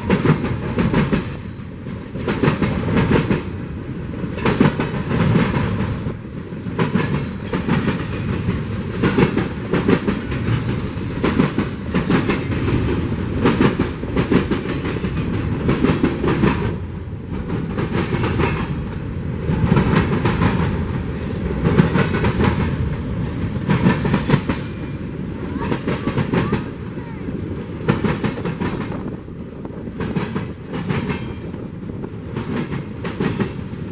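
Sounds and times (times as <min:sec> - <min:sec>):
train wheels clattering over rail joints: 0:00.0 - 0:26.6, 0:27.6 - 0:33.9
train rumble: 0:00.0 - 0:33.9.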